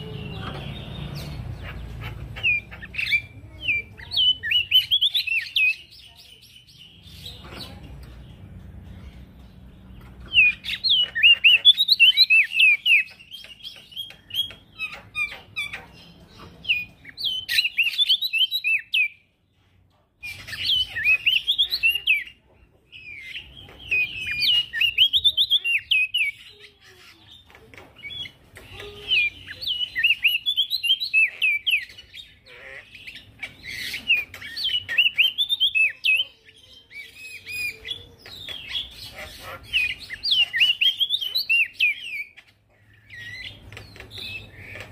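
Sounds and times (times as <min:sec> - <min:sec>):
bird chirping and trilling: 0:00.0 - 0:44.9.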